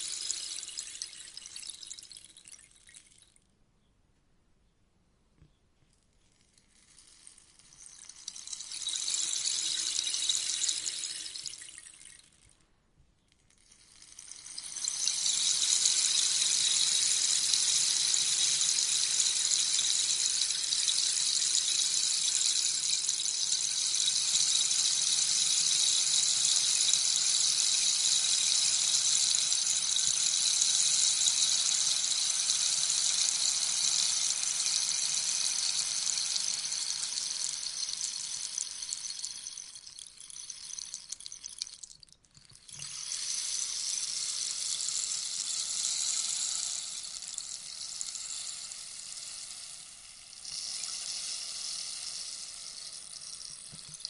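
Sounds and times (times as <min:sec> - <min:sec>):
rainstick pellets trickling: 0:00.0 - 0:03.4, 0:06.3 - 0:12.6, 0:13.4 - 0:54.0.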